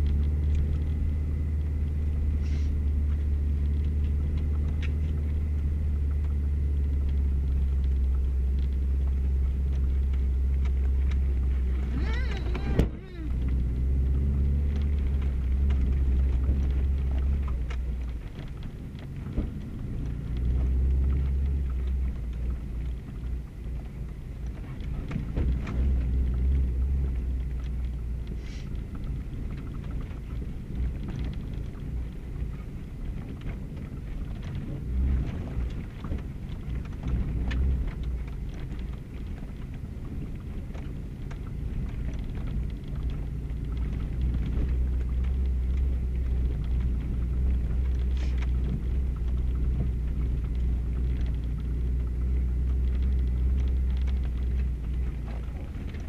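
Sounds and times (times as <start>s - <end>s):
car engine and tyre rumble: 0.0s - 56.0s
gravel pinging against underbody: 0.0s - 56.0s.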